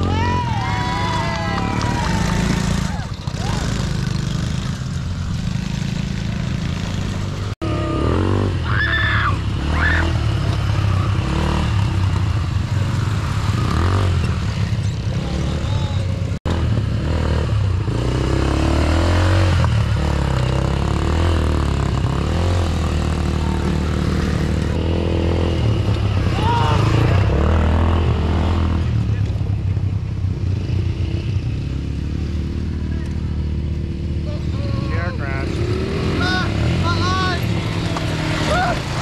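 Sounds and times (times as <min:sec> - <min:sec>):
atv engines rumbling: 0:00.0 - 0:39.0.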